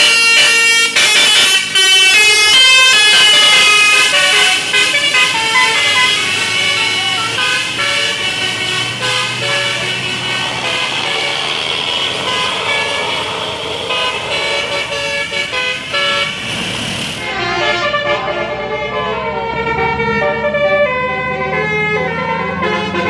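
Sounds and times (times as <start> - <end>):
road traffic hiss: 0.0 - 20.1
bus horns playing a melody: 0.0 - 23.0.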